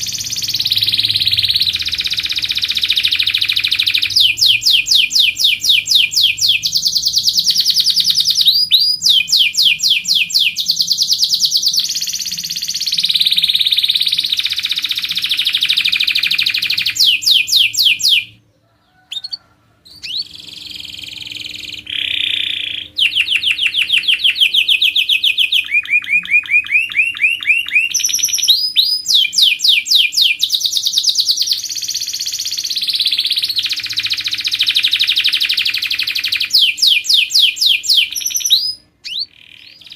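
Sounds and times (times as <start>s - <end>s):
canary trilling: 0.0s - 39.9s.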